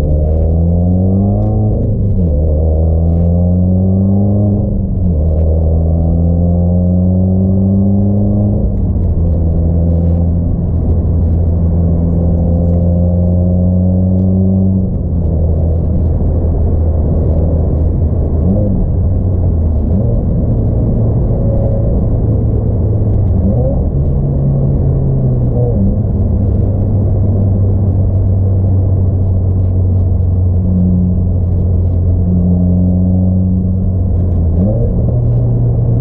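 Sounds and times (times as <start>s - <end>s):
car engine rumble: 0.0s - 36.0s.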